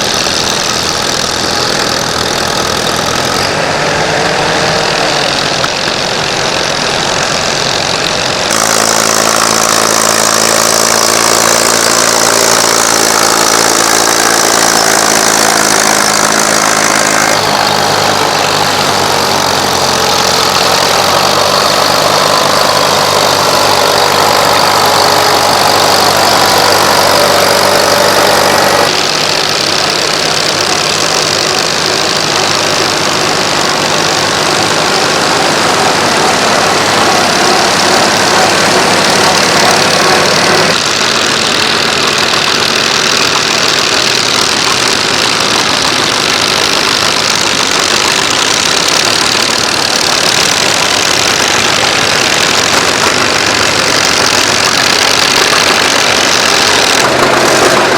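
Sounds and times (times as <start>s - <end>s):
tractor engines running: 0.0s - 57.9s.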